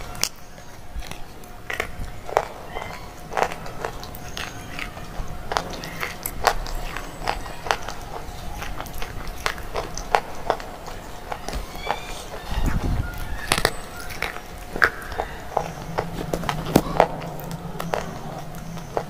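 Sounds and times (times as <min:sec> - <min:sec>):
crunching chewing: 0:00.0 - 0:19.0.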